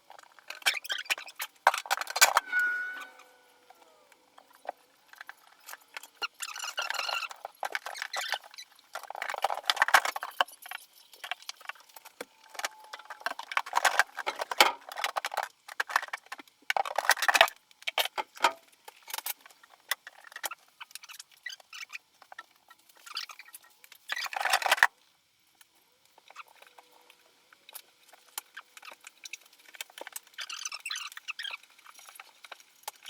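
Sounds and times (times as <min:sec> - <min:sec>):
rustling and scratching: 0:00.0 - 0:33.0.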